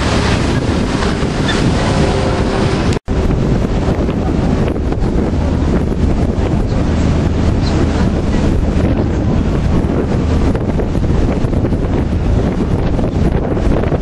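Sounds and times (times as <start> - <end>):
rushing water: 0.0 - 14.0
wind buffeting microphone: 0.0 - 14.0.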